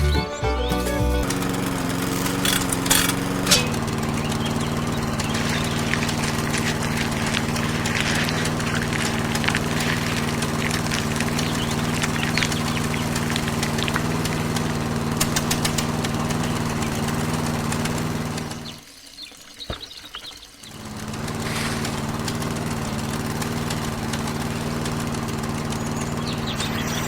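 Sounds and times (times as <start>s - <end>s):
small engine running: 0.0s - 18.9s, 20.4s - 27.0s.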